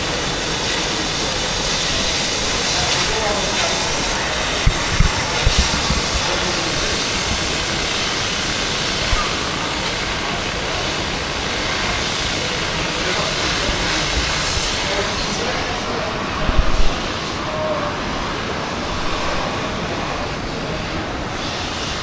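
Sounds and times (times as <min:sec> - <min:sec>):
river rushing: 0:00.0 - 0:22.0.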